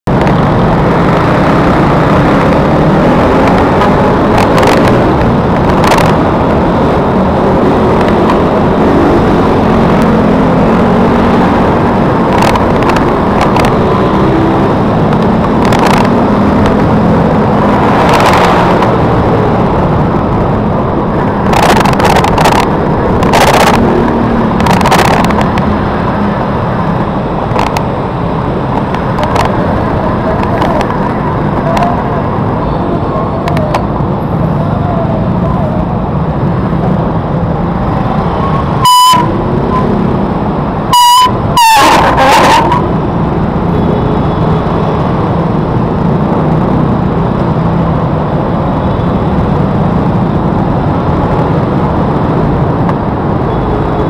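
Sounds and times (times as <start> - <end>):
motorcycle engines revving: 0.1 - 54.0
wind on microphone: 0.1 - 54.0.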